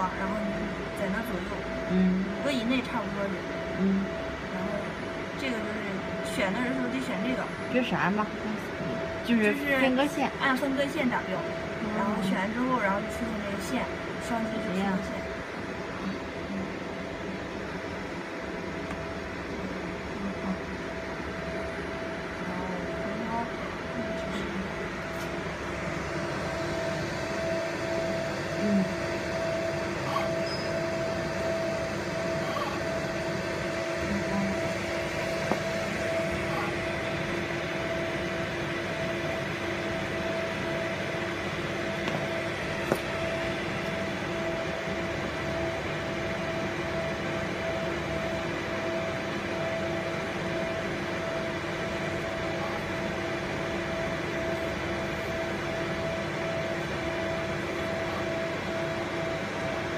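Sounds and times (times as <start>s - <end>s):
machine hum: 0.0s - 59.9s.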